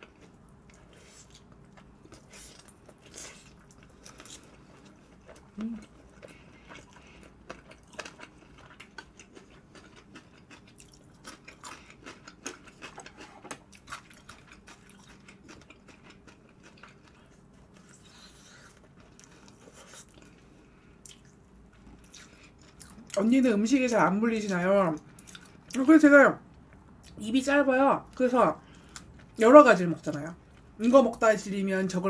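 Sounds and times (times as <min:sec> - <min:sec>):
chewing crispy fried food: 0:00.0 - 0:27.3.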